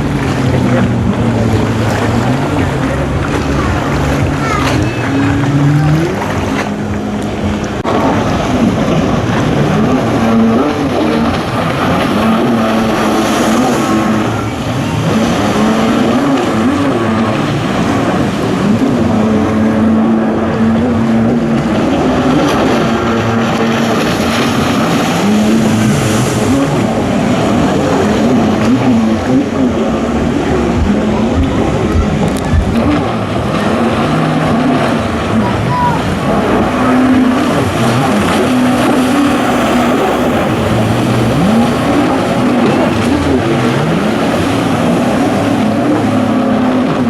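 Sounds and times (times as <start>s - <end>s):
jet ski engines racing: 0.0s - 47.0s.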